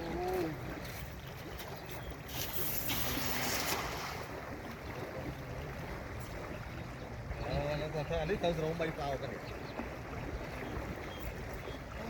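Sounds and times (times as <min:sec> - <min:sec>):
water: 0:00.0 - 0:12.0
wind buffeting the microphone: 0:00.0 - 0:12.0.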